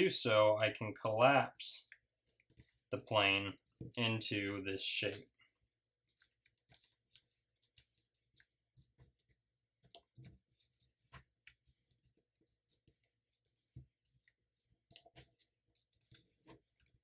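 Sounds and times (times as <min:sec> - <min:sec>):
paper being folded: 0:01.8 - 0:17.0.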